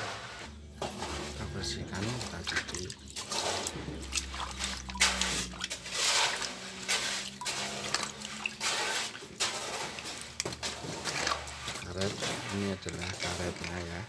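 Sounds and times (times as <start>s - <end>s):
water splashing: 0.8s - 14.0s.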